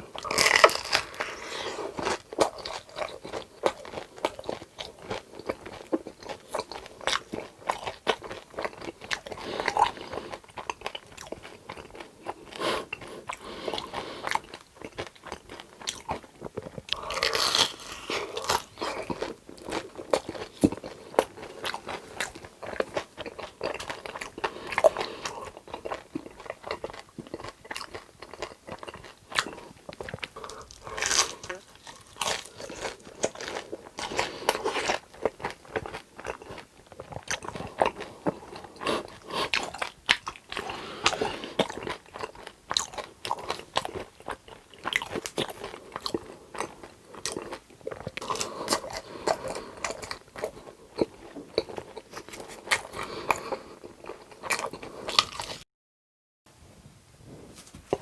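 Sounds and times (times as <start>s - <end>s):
person chewing crunchy food: 0.0s - 55.6s.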